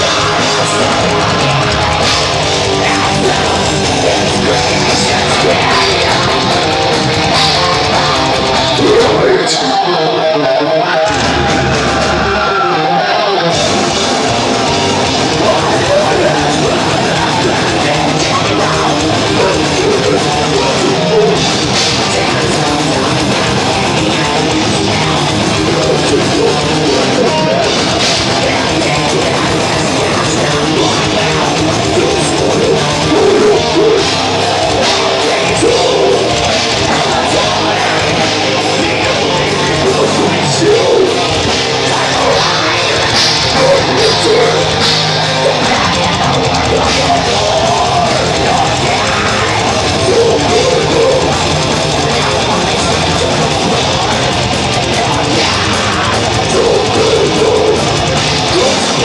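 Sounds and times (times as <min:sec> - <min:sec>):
metal band playing live: 0:00.0 - 0:59.0.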